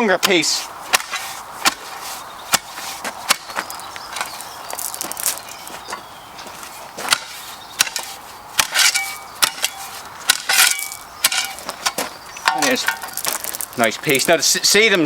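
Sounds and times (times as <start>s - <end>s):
scraping rustle: 0.2s - 14.5s.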